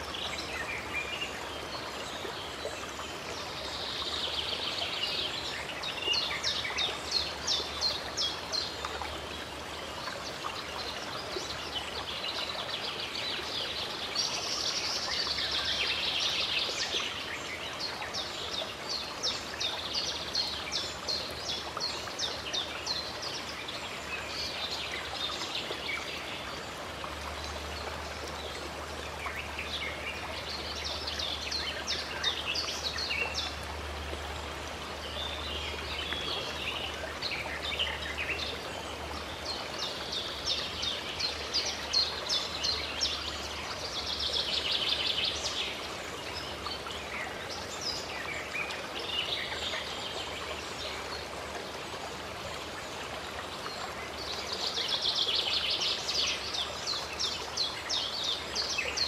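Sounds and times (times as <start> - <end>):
running stream: 0.0 - 59.0.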